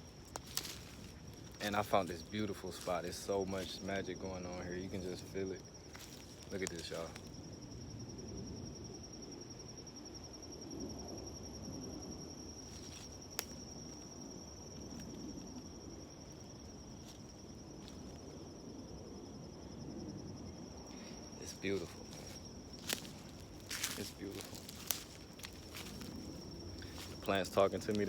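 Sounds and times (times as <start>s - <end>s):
insect trilling: 0.0s - 28.0s.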